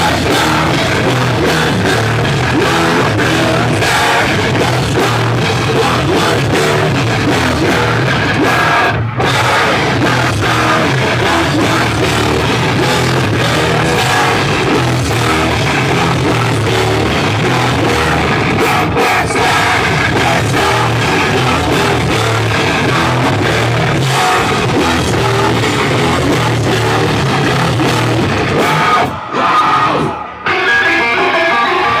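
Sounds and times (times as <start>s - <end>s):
metal band playing live: 0.0s - 32.0s.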